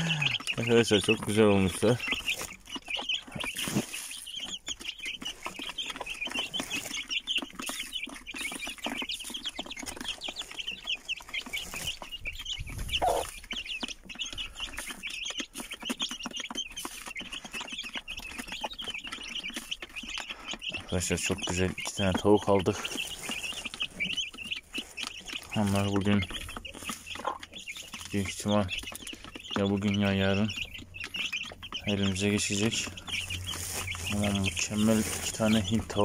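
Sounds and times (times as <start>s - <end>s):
chicks peeping: 0.0s - 36.0s
hen clucking: 0.0s - 36.0s.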